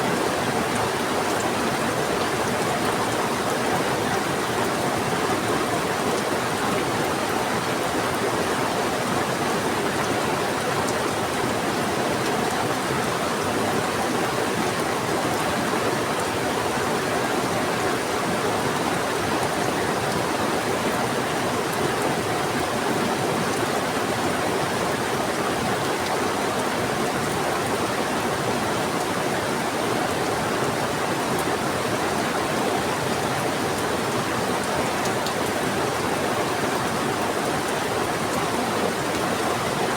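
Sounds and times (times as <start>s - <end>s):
fast-flowing river: 0.0s - 39.9s
heavy rain: 0.0s - 39.9s.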